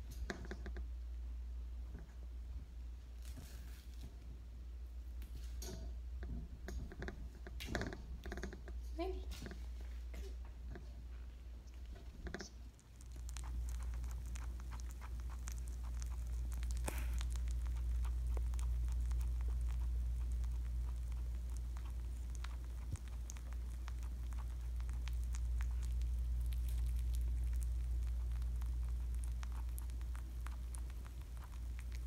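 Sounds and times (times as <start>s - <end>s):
rabbit chewing: 0.0s - 32.0s
steady low hum: 0.0s - 32.0s.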